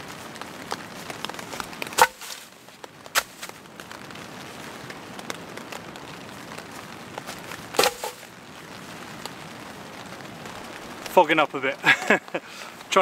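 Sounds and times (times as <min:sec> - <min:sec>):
rain pattering on tent fabric: 0:00.0 - 0:13.0.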